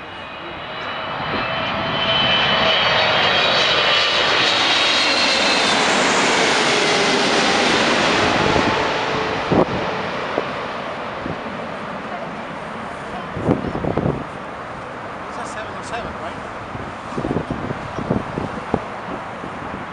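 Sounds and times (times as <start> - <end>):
jet airliner passing overhead: 0.0 - 19.9.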